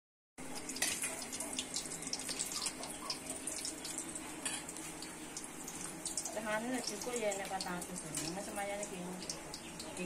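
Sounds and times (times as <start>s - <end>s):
sharp drip-like ticks: 0.6s - 10.0s.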